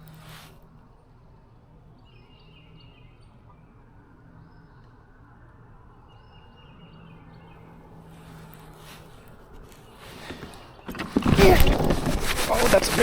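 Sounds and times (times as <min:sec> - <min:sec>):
birds singing faintly: 0:00.0 - 0:13.0.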